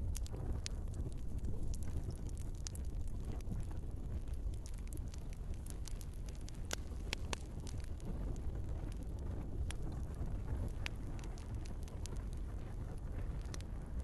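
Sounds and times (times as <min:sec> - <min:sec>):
flames rumbling: 0:00.0 - 0:14.0
wood fire crackling: 0:00.0 - 0:14.0.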